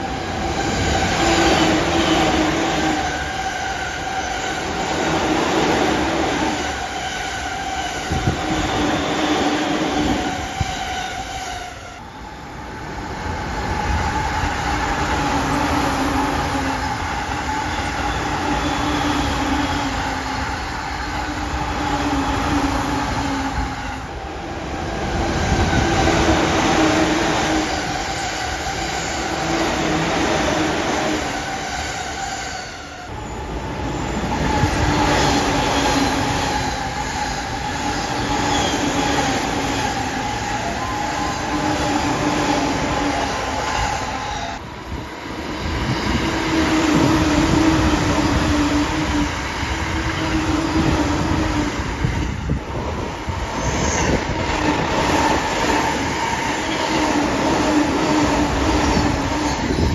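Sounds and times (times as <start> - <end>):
trains passing at speed: 0.0 - 59.9.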